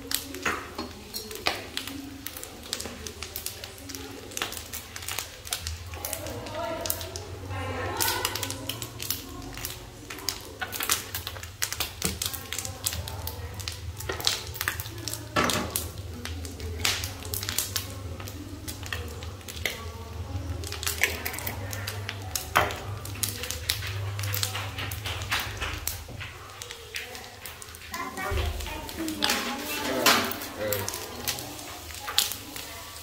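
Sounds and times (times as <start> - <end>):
fish sizzling in hot oil: 0.0 - 33.0
oil popping and crackling: 0.0 - 33.0.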